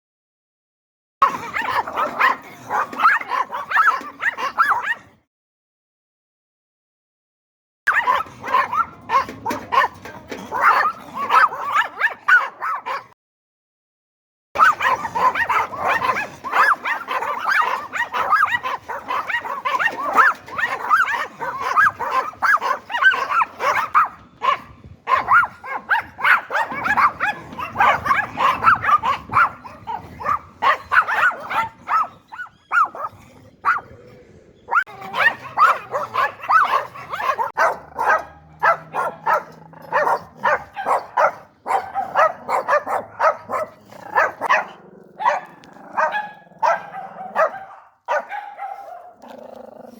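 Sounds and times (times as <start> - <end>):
small dog barking: 1.2 - 5.1, 7.9 - 13.2, 14.6 - 33.9, 34.7 - 49.9.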